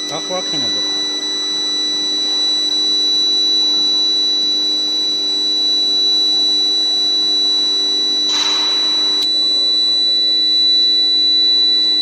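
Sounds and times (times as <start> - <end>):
induction heater electrical whine: 0.0 - 12.0.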